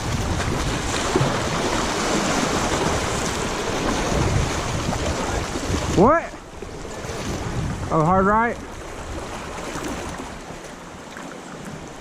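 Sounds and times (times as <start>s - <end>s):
fast river water rushing: 0.0s - 12.0s.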